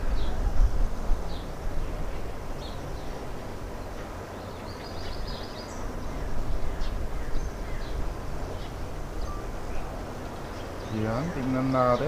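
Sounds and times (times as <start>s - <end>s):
wind on microphone: 0.0s - 4.2s, 4.9s - 11.9s
birds chirping: 0.0s - 12.0s.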